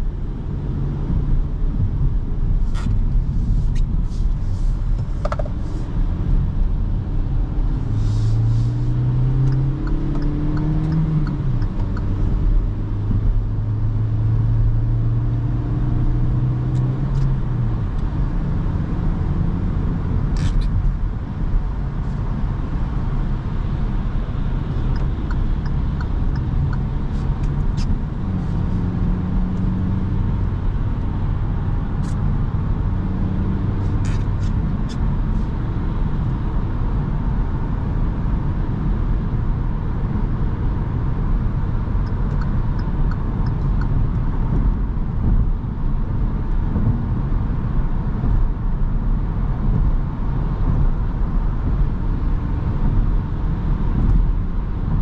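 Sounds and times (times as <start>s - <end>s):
car engine hum: 0.0s - 55.0s
tyre and road noise: 0.0s - 55.0s.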